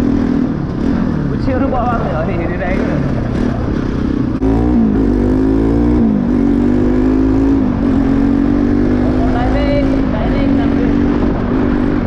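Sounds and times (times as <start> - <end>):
low wind: 0.0 - 12.0
motorcycle engine revving: 0.0 - 12.0
road rumble: 0.0 - 12.0.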